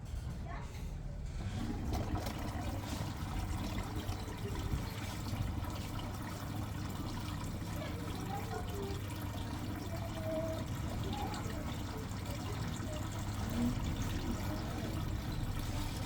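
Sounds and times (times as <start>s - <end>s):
water moving in washing machine drum: 1.2s - 16.0s.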